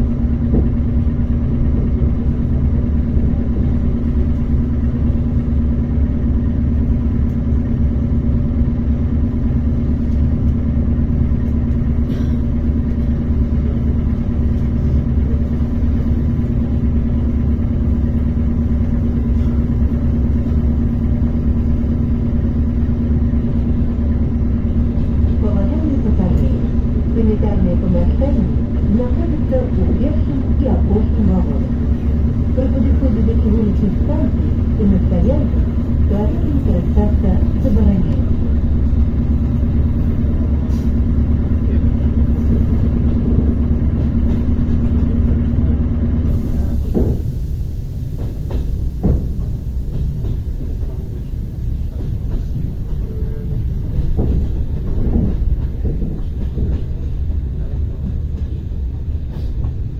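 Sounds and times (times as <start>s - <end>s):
train rumbling inside car: 0.0s - 59.9s.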